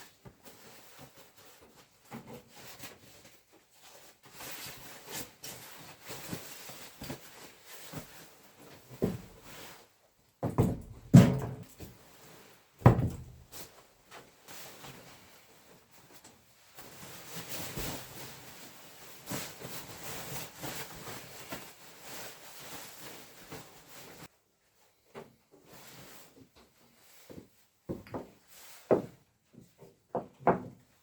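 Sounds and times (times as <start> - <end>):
rustling and handling noises: 0.0 - 31.0.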